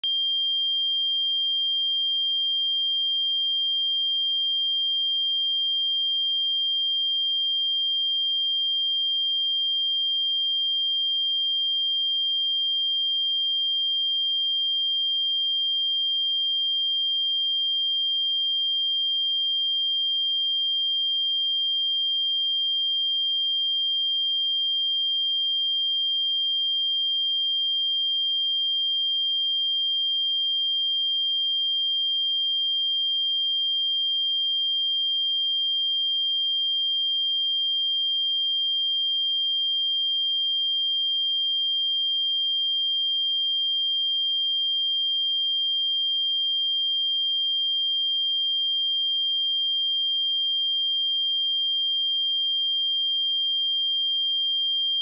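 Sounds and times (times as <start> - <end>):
high-pitched sine test tone: 0.0 - 55.0.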